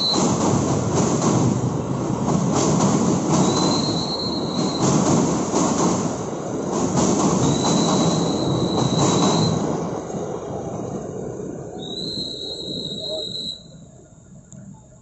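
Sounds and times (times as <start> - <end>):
train rumbling across steel bridge: 0.0 - 15.0.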